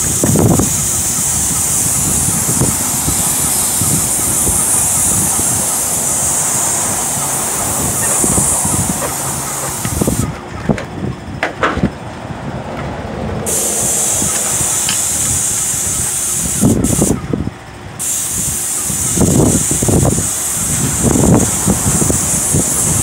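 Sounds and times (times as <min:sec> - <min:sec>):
paint spray gun hissing: 0:00.0 - 0:10.3, 0:13.5 - 0:17.2, 0:18.0 - 0:23.0.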